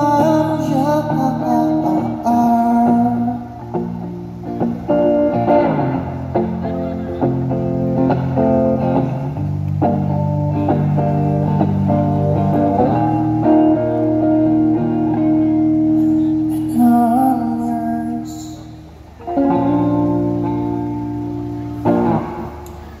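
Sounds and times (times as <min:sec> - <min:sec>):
electric guitar strummed chords: 0:00.0 - 0:23.0.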